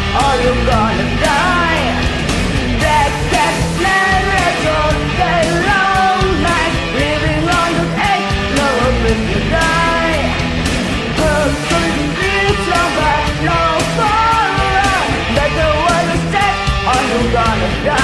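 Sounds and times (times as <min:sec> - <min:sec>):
woman singing: 0:00.0 - 0:02.0, 0:02.8 - 0:10.4, 0:11.2 - 0:18.0
electric guitar: 0:00.0 - 0:18.0.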